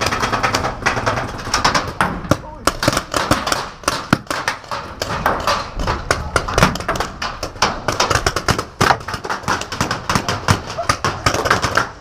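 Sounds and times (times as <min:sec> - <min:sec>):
paintball markers firing: 0:00.0 - 0:12.0.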